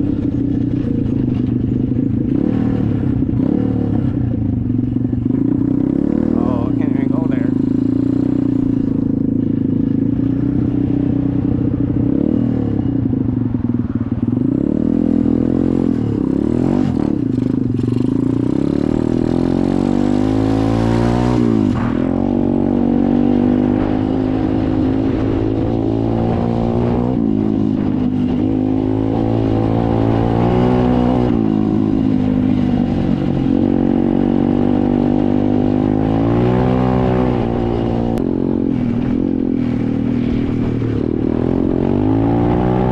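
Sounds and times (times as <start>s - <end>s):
dirt bike engine revving: 0.0s - 13.2s, 13.8s - 42.9s.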